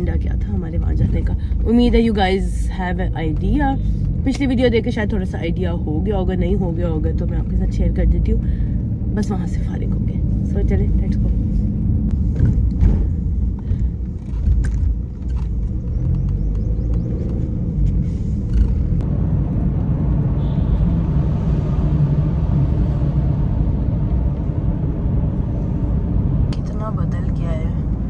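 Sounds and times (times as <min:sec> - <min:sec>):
car cabin road rumble: 0:00.0 - 0:28.0.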